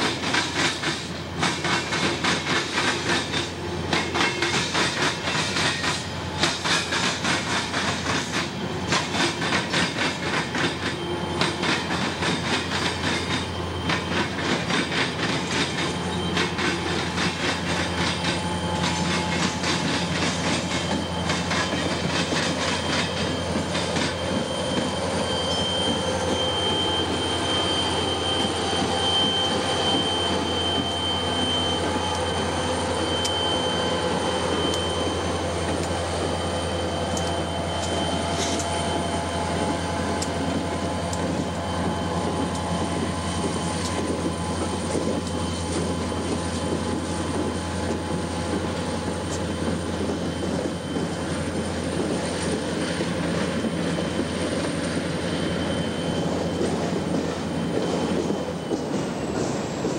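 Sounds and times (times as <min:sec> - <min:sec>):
diesel locomotive engine drone: 0:00.0 - 0:59.9
train wheels clattering over rail joints: 0:00.0 - 0:59.9
high-pitched wheel squeal: 0:06.8 - 0:59.9.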